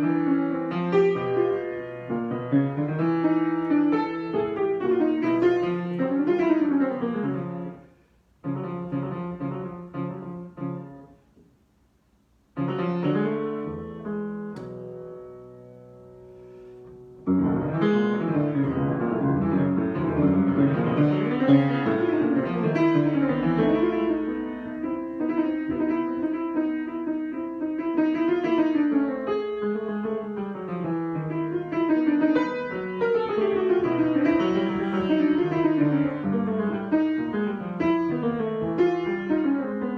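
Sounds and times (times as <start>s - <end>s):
solo piano playing: 0.0s - 11.3s, 12.5s - 39.9s.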